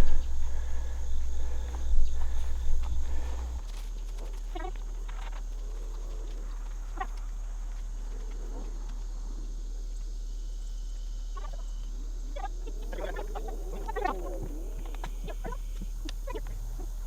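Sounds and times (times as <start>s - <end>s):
chickens clucking: 0.0s - 9.4s, 11.4s - 17.0s
steady low hum: 0.0s - 17.0s.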